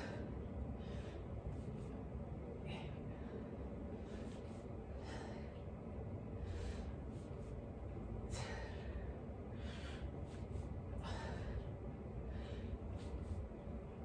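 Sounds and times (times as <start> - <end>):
woman breathing hard: 0.0 - 14.0.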